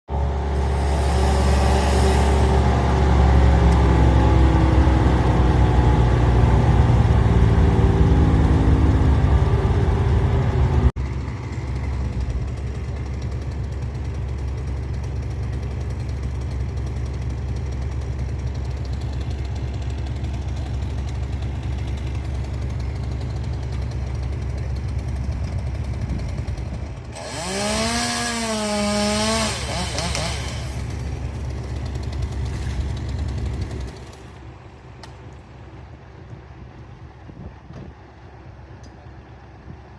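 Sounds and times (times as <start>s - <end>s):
chainsaw engine revving: 0.1s - 10.0s, 11.1s - 34.6s
engine drone: 0.1s - 39.9s
loud machinery noise: 0.1s - 39.9s.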